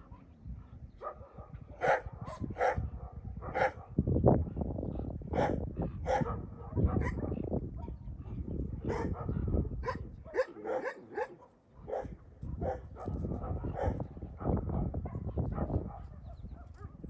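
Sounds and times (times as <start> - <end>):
dogs barking and yipping: 1.0 - 4.0, 5.3 - 17.0.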